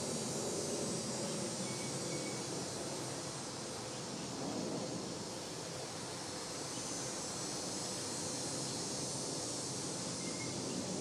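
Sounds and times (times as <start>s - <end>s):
constant low hiss: 0.0s - 11.0s
insects droning: 0.0s - 11.0s.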